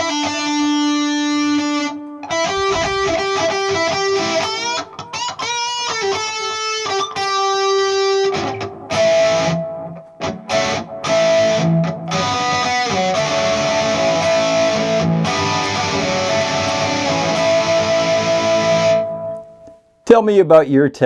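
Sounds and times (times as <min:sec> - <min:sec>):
electric guitar with string bends: 0:00.0 - 0:19.8.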